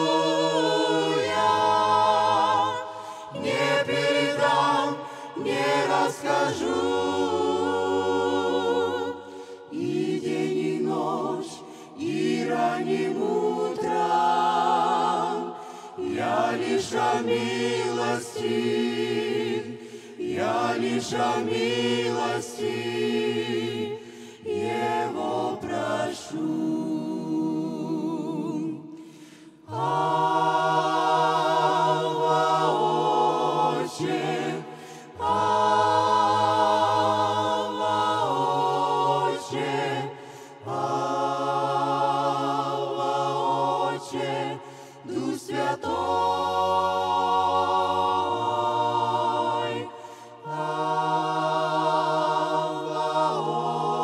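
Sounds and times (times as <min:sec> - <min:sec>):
choir singing worship song: 0:00.0 - 0:54.0.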